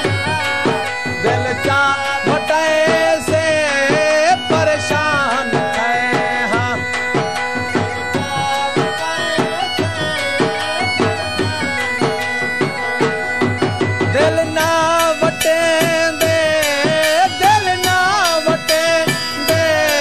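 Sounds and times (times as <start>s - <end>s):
reedy wind instrument melody: 0.0s - 20.0s
steady drum beat: 0.0s - 20.0s.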